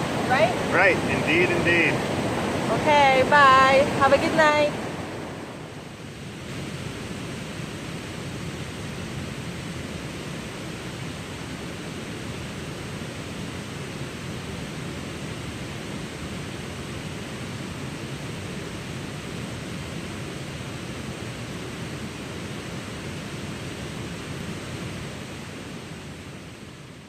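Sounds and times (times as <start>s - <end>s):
flowing water rushing: 0.0s - 27.0s.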